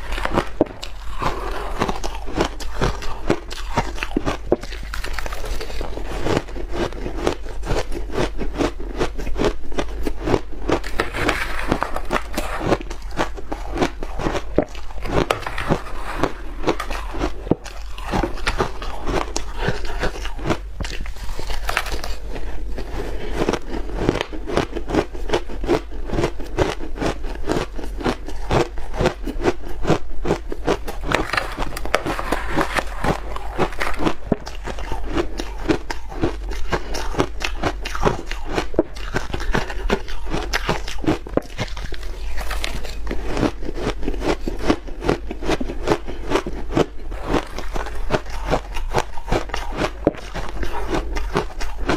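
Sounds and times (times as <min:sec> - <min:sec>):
ice crunching while chewed: 0:00.0 - 0:51.9.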